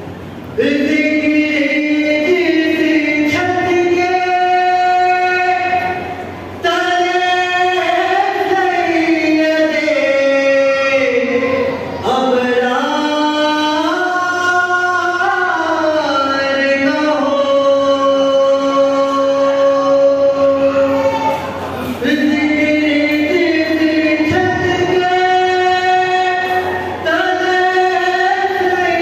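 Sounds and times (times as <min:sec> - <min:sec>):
person singing devotional recitation: 0:00.6 - 0:29.0.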